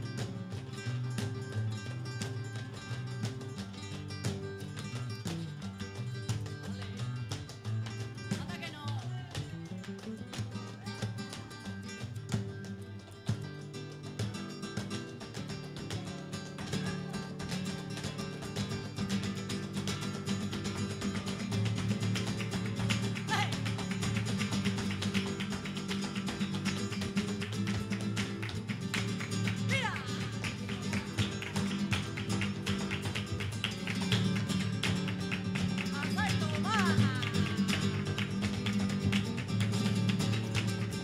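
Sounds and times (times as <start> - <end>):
flamenco guitar strumming: 0.0 - 41.0.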